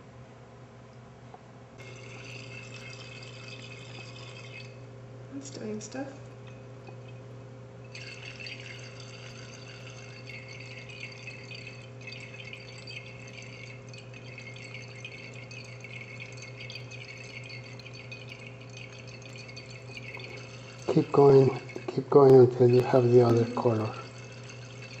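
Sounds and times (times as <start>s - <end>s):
liquid dripping in glass flask: 1.8s - 4.9s, 6.4s - 25.0s.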